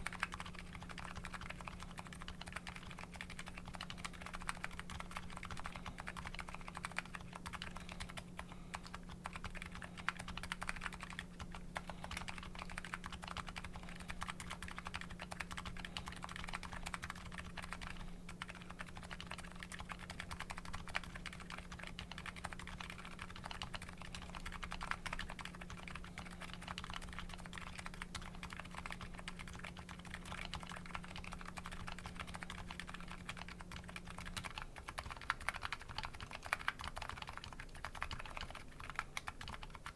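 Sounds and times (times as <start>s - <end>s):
fast mechanical keyboard typing: 0.0s - 39.9s
steady low hum: 0.0s - 39.9s.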